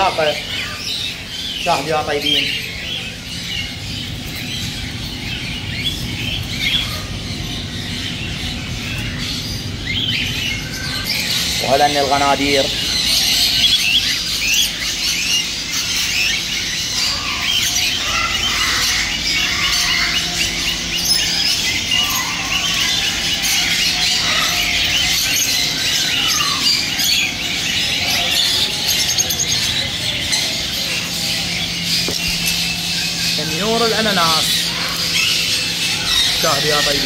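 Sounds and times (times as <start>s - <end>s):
birds chirping and squawking: 0.0s - 37.0s.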